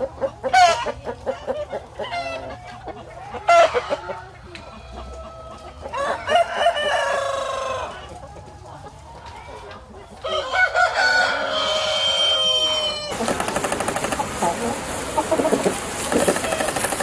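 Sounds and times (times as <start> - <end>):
chickens clucking and calling: 0.0 - 17.0.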